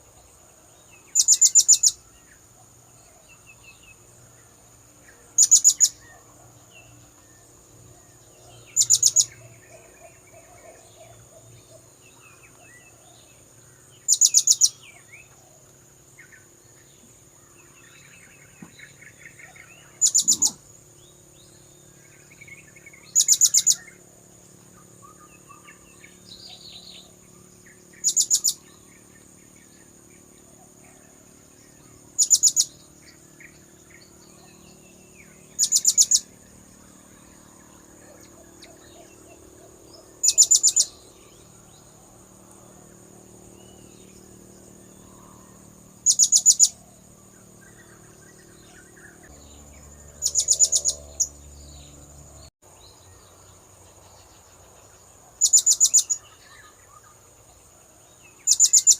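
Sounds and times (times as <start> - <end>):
steady high whine: 0.0 - 52.5
faint bird chirps: 0.0 - 58.9.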